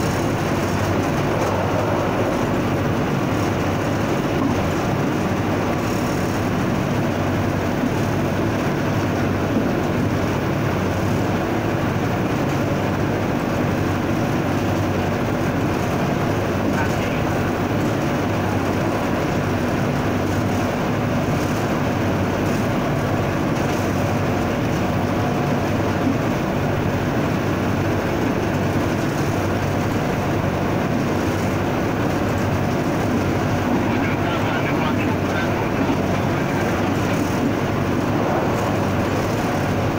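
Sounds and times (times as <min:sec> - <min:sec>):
diesel locomotive engine running: 0:00.0 - 0:39.9
train running along track: 0:00.0 - 0:39.9.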